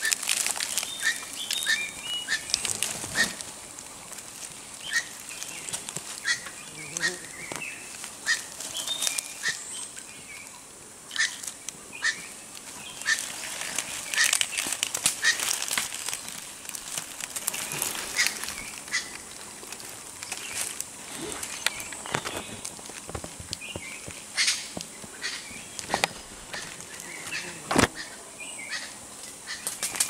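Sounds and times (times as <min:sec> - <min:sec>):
footsteps on dry leaves: 0:00.0 - 0:10.2, 0:11.2 - 0:28.2.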